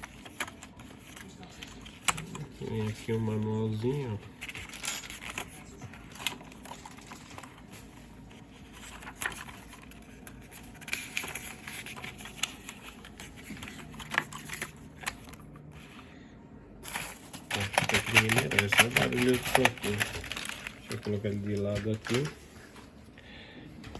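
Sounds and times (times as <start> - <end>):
paper and packaging rustling: 0.0 - 16.1, 16.8 - 23.1.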